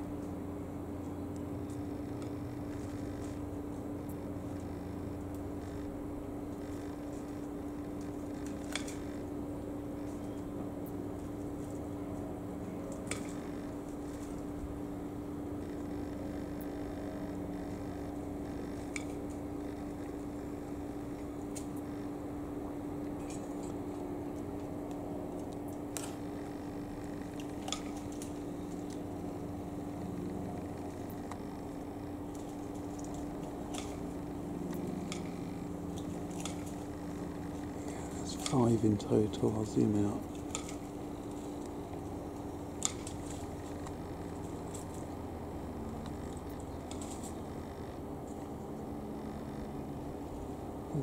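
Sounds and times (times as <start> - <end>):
low background rumble: 0.0 - 51.0
steady low hum: 0.0 - 51.0.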